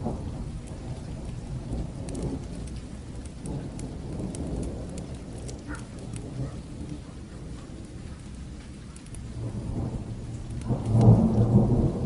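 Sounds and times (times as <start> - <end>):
fire crackling: 0.0 - 12.0
low rumble of thunder: 0.0 - 12.0
steady rain: 0.0 - 12.0.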